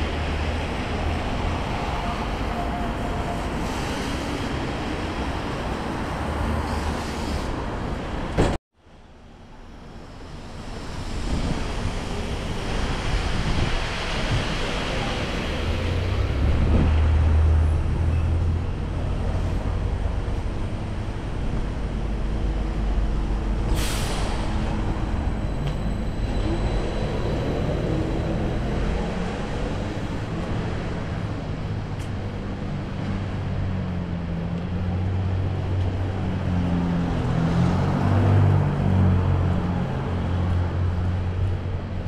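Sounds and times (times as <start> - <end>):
road noise: 0.0 - 42.0.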